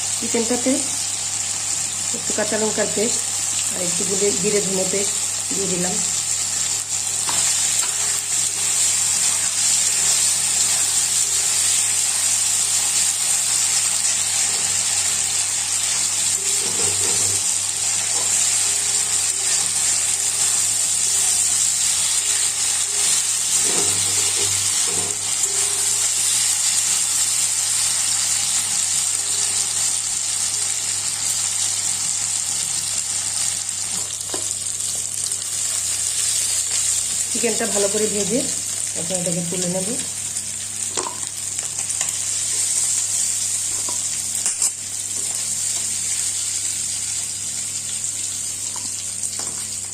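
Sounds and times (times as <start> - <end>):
chicken sizzling in hot oil: 0.0 - 49.9.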